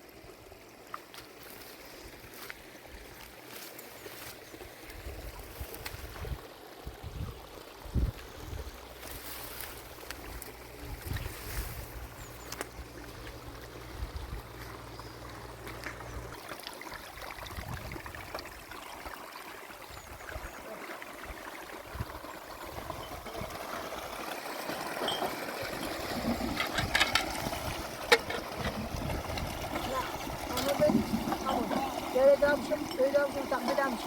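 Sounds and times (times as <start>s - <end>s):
spring water trickling: 0.0s - 34.0s.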